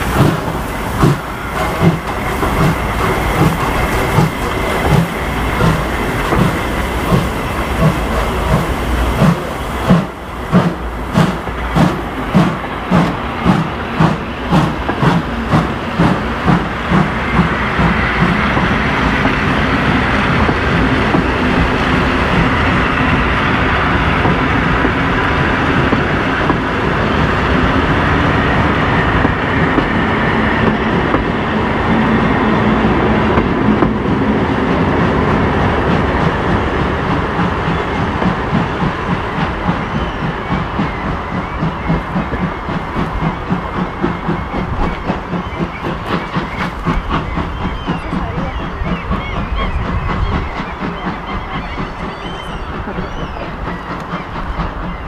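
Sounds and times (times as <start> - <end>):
train wheels clicking over joints: 0.0 - 32.0, 33.0 - 55.0
train rolling rumble: 0.0 - 55.0.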